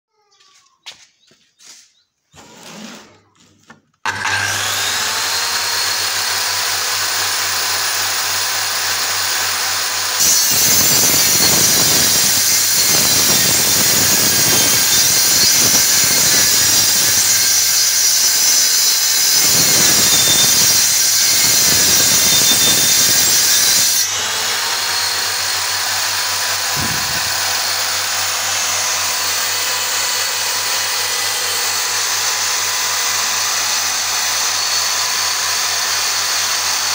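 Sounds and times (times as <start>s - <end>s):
circular saw cutting board: 2.3s - 36.9s.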